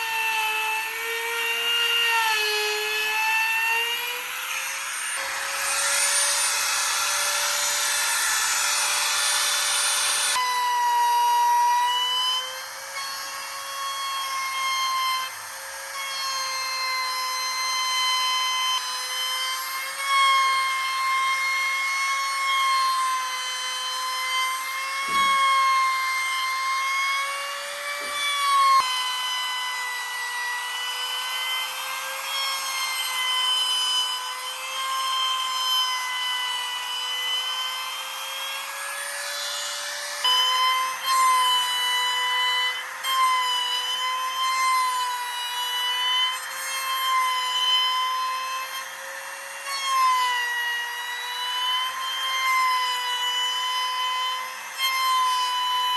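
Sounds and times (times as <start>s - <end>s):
electric power tool whining: 0.0s - 55.9s.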